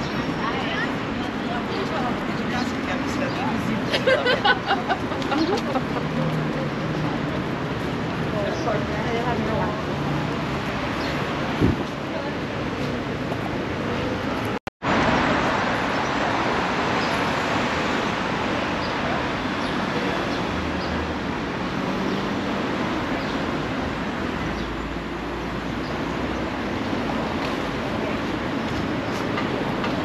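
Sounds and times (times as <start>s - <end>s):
passing traffic: 0.0s - 30.0s.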